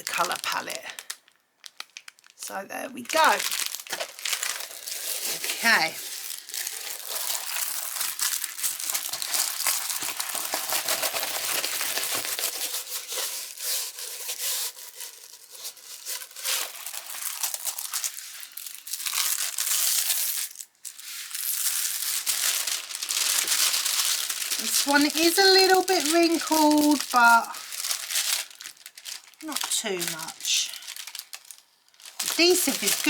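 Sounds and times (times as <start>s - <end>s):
plastic crinkling and rustling: 0.0s - 33.0s.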